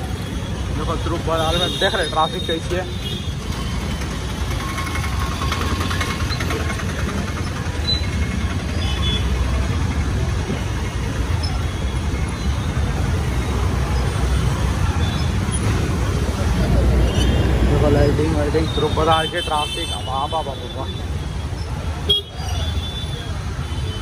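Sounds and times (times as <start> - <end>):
nearby motorcycle engines: 0.0 - 24.0
road and wind noise: 0.0 - 24.0.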